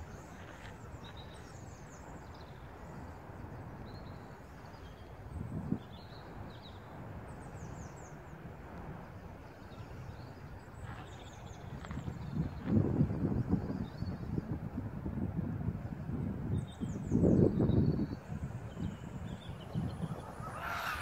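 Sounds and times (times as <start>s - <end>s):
small birds chirping: 0.0s - 8.4s, 9.0s - 14.5s, 16.5s - 21.0s.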